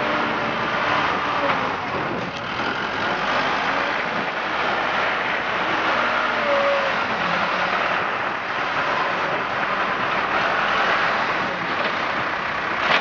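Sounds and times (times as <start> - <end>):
road-works machinery running: 0.0 - 13.0.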